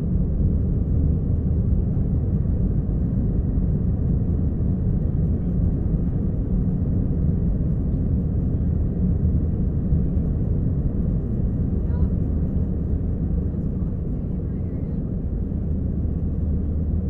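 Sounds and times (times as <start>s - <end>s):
aircraft taking off rumble: 0.0s - 17.0s.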